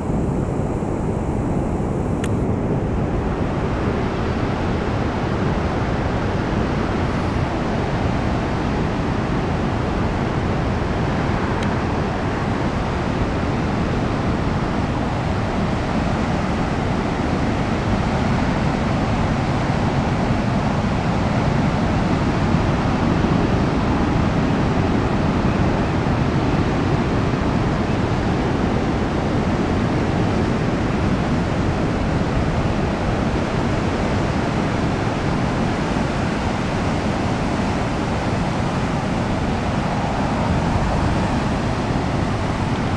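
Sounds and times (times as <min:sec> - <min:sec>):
waves breaking on beach: 0:02.6 - 0:42.9.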